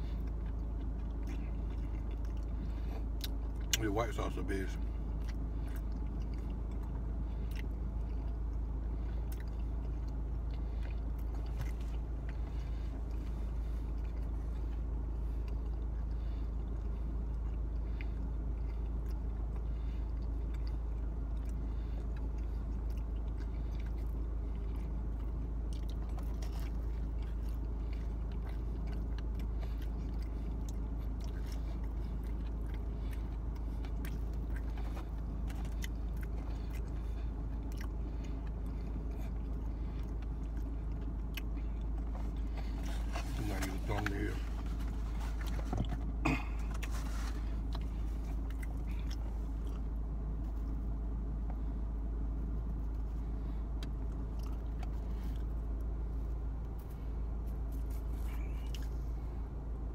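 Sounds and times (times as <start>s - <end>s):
person chewing: 0.0s - 59.4s
low hum inside car: 0.0s - 59.9s.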